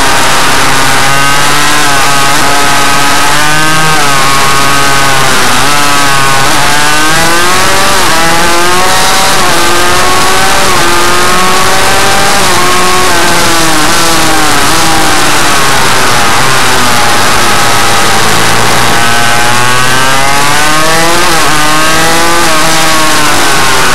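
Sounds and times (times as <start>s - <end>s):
two-stroke engine revving: 0.0s - 23.9s.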